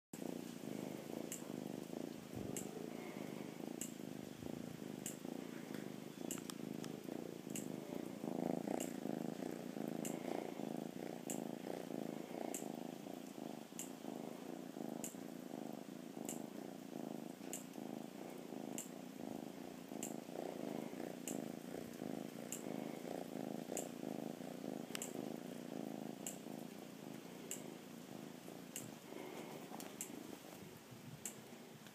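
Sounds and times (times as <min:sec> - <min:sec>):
cat purring: 0:00.2 - 0:31.9.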